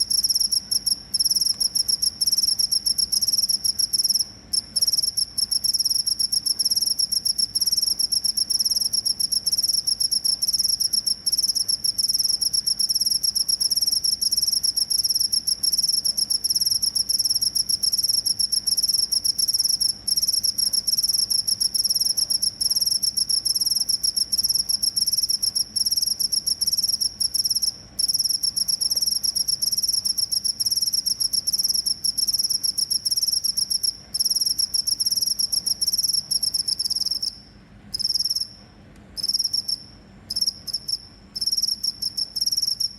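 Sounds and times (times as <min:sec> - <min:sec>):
cricket chirping: 0:00.0 - 0:38.6, 0:39.2 - 0:42.9.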